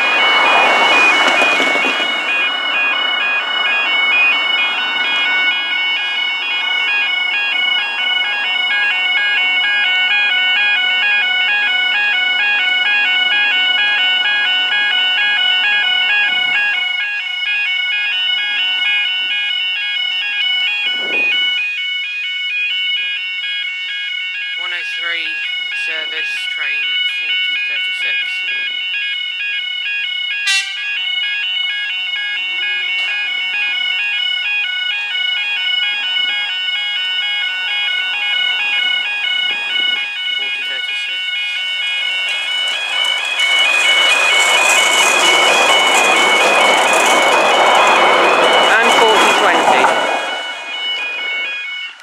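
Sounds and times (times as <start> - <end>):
level crossing warning alarm: 0.0 - 52.0.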